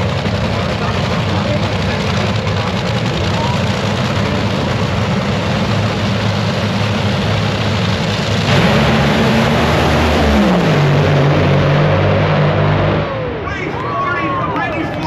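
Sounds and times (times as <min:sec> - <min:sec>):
dragster engines roaring: 0:00.0 - 0:15.0.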